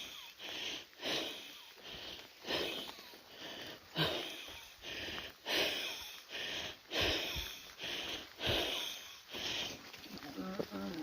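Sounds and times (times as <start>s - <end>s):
heavy wheezy breathing: 0.0s - 10.0s.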